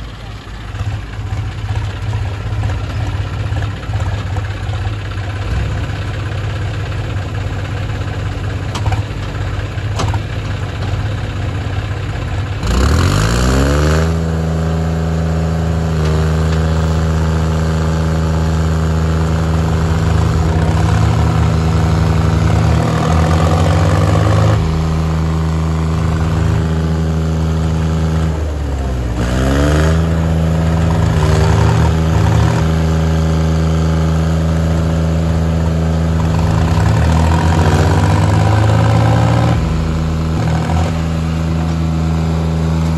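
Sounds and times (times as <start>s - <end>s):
tractor diesel engines revving: 0.0s - 42.9s.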